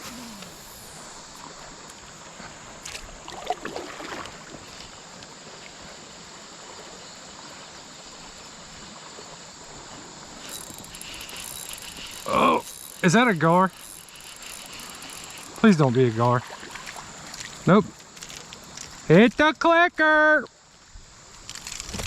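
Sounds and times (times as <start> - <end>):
river water: 0.0 - 22.0
wind: 0.0 - 22.0.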